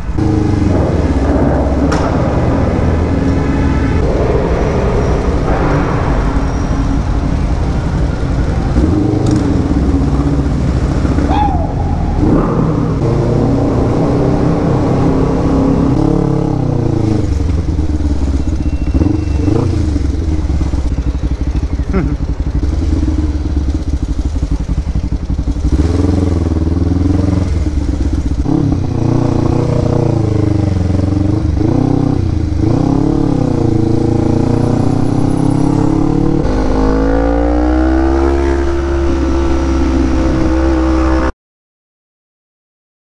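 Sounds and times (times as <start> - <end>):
motorcycle engine revving: 0.0 - 41.3.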